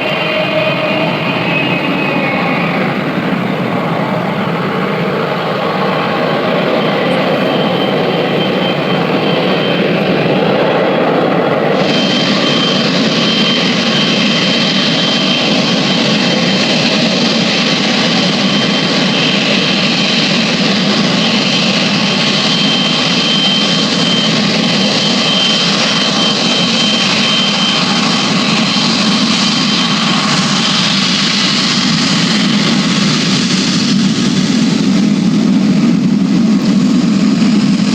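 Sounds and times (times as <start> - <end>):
jet engines running: 0.0 - 37.9.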